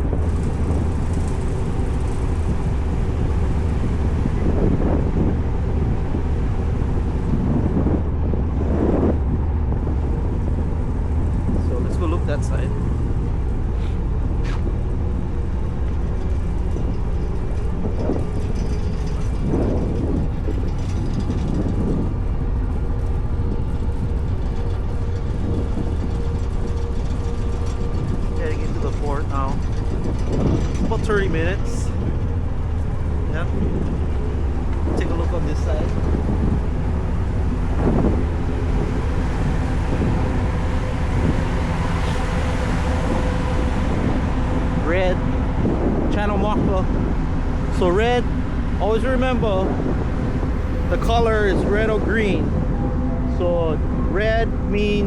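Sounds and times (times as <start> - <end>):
ferry engines droning: 0.0 - 55.0
wind and water noise: 0.0 - 55.0.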